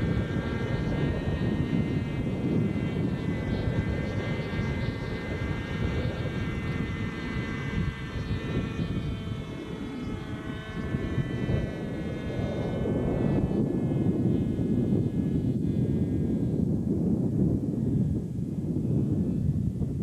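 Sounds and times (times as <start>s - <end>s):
model helicopter engine whining: 0.0s - 20.0s
wind rumbling on microphone: 0.0s - 20.0s.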